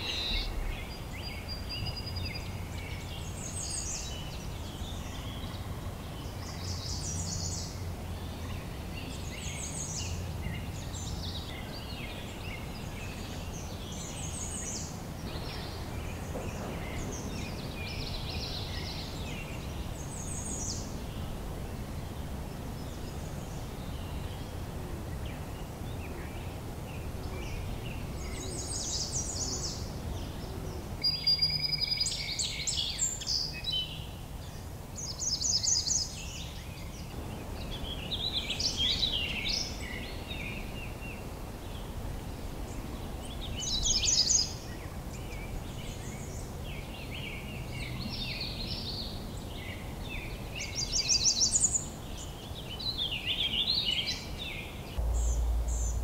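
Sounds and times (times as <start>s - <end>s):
songbirds singing: 0.0s - 56.0s
steady low background noise: 0.0s - 56.0s.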